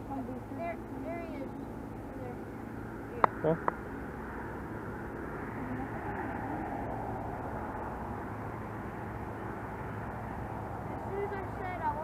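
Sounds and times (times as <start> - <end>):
motor rumble: 0.0 - 12.0.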